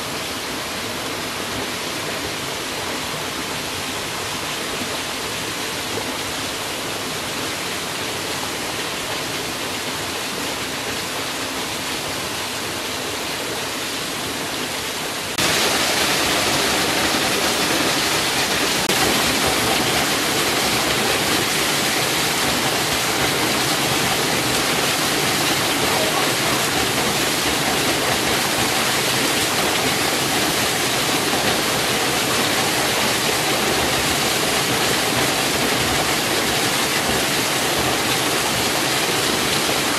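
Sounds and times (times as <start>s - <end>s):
waterfall splashing over boulders: 0.0s - 39.9s.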